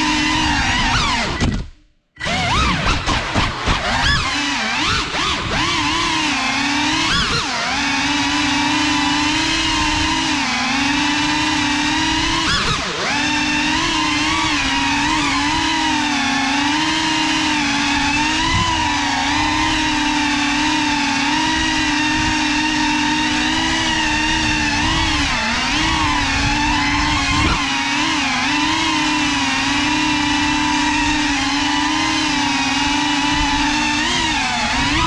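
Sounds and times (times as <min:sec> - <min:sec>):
drone motors whining: 0:00.0 - 0:35.0.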